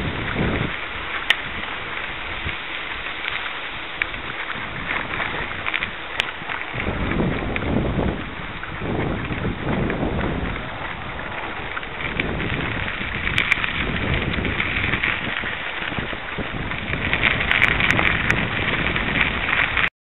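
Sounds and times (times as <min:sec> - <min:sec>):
crackling rumble on gravel trail: 0:00.0 - 0:19.9
wind on microphone: 0:00.0 - 0:19.9.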